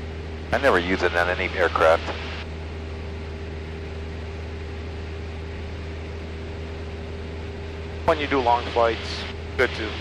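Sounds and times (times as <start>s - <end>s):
propeller plane engine drone: 0.0s - 10.0s.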